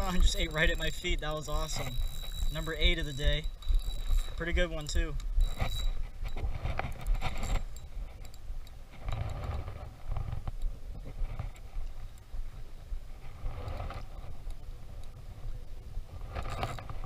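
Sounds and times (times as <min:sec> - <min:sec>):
soft water movement: 0:00.0 - 0:17.0
wind rumbling on microphone: 0:00.0 - 0:17.0.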